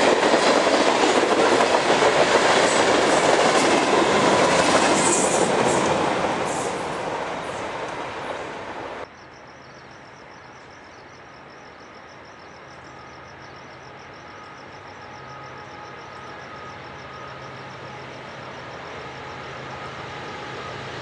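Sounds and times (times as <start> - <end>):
crickets chirping: 0.0 - 21.0
train passing on rails: 0.0 - 21.0.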